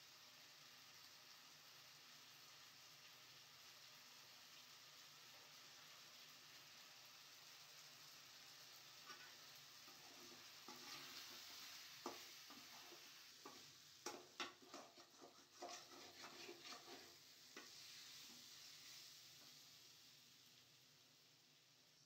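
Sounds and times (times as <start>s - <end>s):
food frying in a pan: 0.0s - 22.0s.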